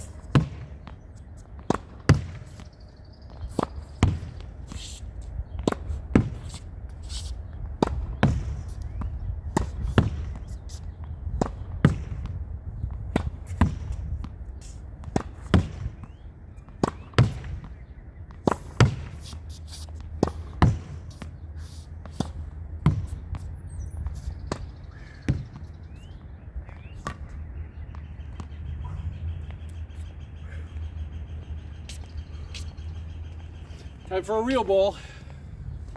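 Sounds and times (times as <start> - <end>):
steady low rumble: 0.0 - 19.2, 20.1 - 34.4, 35.0 - 35.9.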